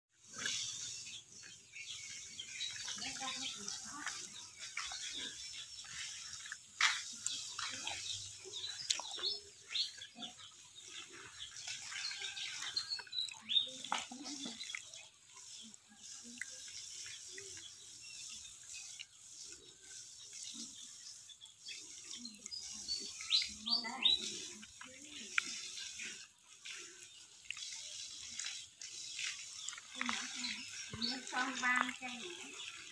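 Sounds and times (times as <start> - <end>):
water spraying from hose: 0.1 - 32.9.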